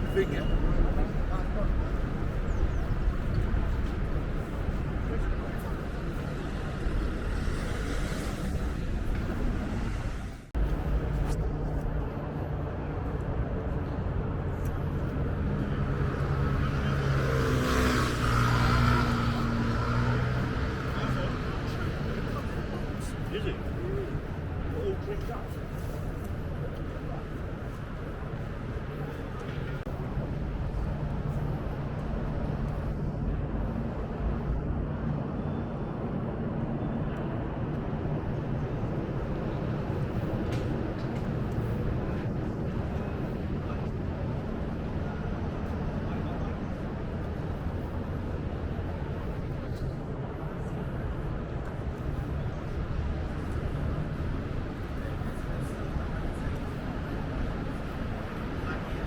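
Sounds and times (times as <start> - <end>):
city traffic rumble: 0.0 - 59.0
street noise: 0.0 - 59.0.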